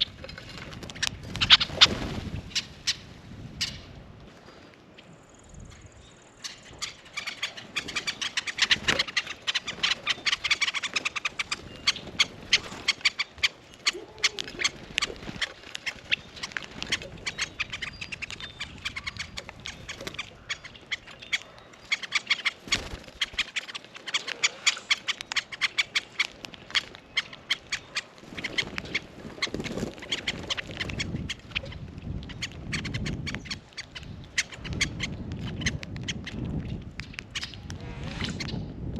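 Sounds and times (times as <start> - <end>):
birds clicking and chipping: 0.0 - 38.9.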